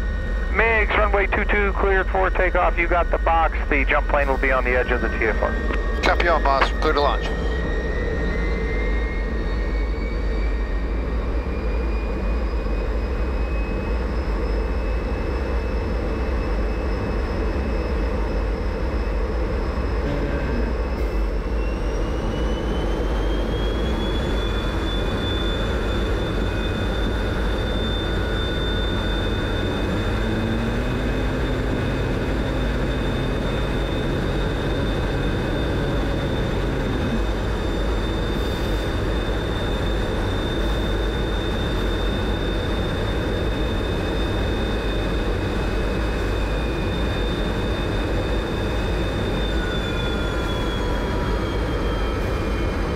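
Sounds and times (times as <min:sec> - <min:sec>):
jet engine whining: 0:00.0 - 0:52.9.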